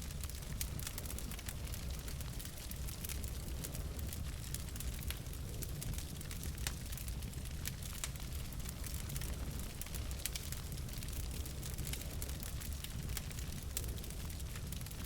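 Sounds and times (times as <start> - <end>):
logs crackling and popping: 0.0 - 15.0.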